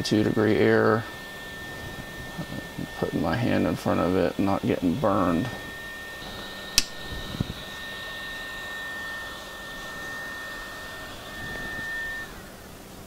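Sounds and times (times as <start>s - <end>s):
blower fan whine: 0.0s - 13.0s
hot air gun blowing: 0.0s - 13.0s.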